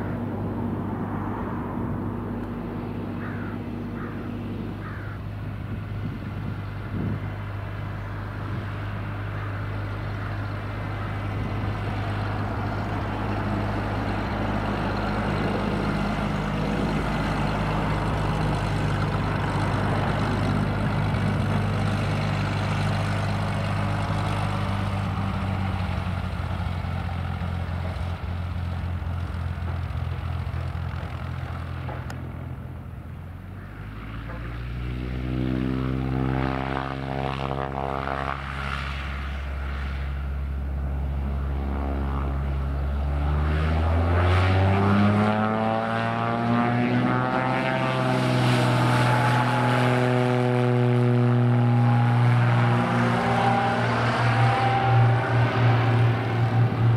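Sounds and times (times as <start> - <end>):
light aircraft engine and propeller: 0.0 - 56.9.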